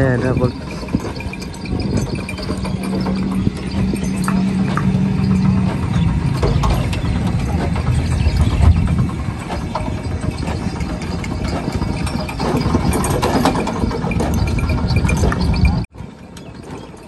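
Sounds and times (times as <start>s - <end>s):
hooves on dirt: 0.0s - 15.7s
mill rumbling and clattering: 0.0s - 17.0s.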